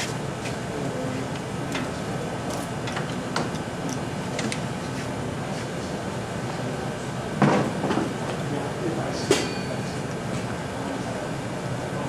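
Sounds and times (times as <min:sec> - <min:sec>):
steady machinery hum: 0:00.0 - 0:12.0.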